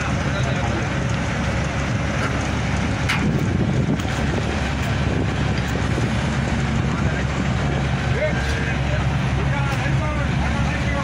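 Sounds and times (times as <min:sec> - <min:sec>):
crane engine humming: 0:00.0 - 0:11.0
wind buffeting microphone: 0:00.1 - 0:11.0.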